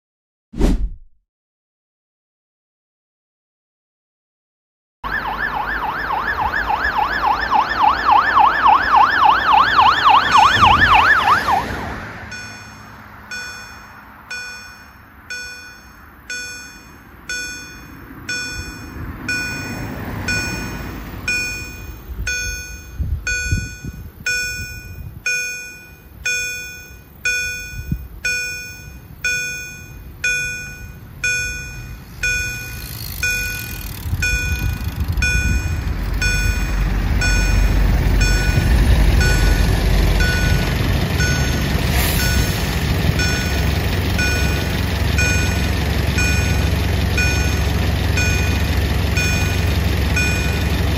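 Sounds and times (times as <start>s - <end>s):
ambulance siren yelping: 5.0s - 16.7s, 17.3s - 24.9s, 26.2s - 50.9s
level crossing warning bell: 5.0s - 50.9s.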